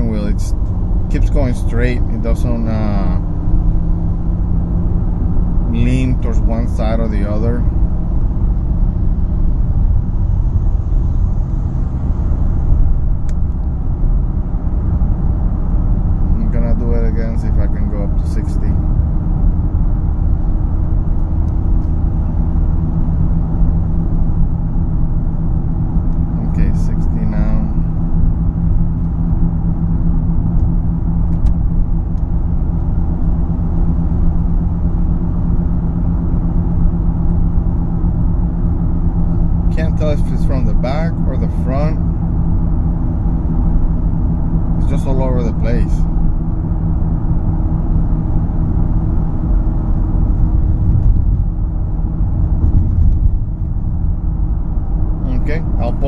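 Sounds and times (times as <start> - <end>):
car cabin humming and road rumble: 0.0 - 56.0.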